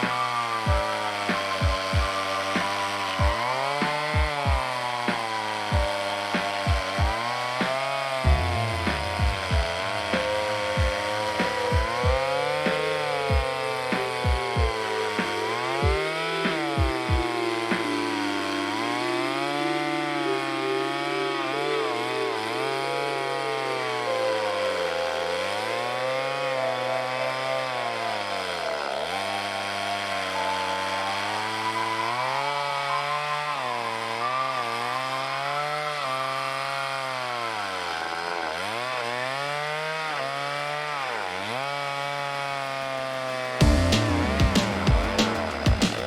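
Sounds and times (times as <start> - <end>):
chainsaw cutting log: 0.0 - 46.0.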